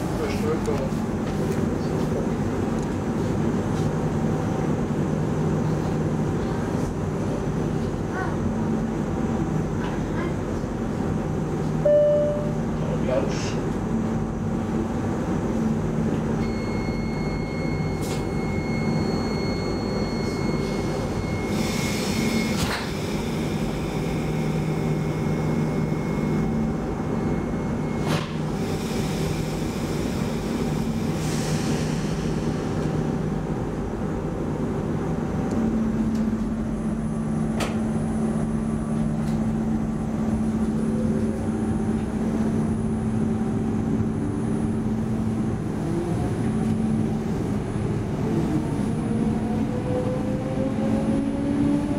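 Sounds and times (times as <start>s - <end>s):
train equipment hum: 0.0s - 51.9s.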